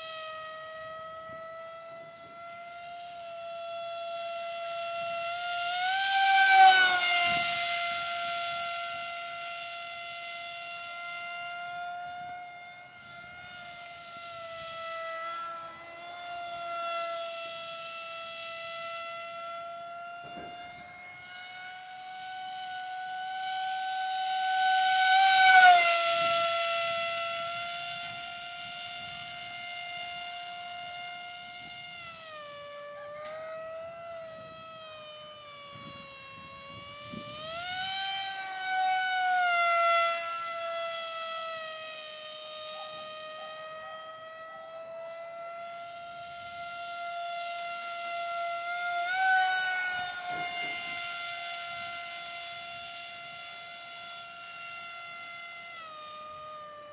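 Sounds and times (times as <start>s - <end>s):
model airplane motor whining: 0.0s - 56.9s.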